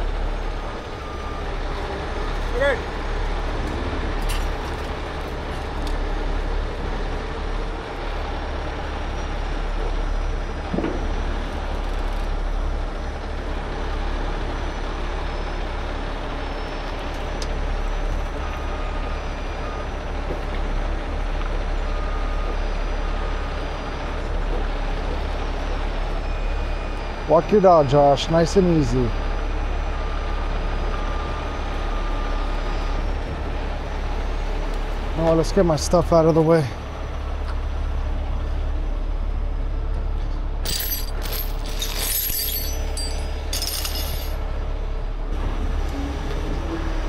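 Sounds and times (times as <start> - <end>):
diesel engine running under load: 0.0 - 47.0.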